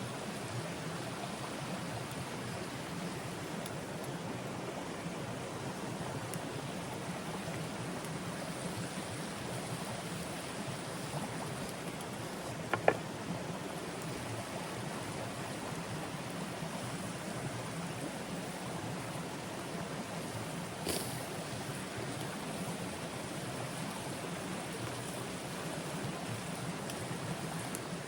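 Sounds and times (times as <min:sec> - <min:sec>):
rain: 0:00.0 - 0:28.0
running stream water: 0:00.0 - 0:28.0.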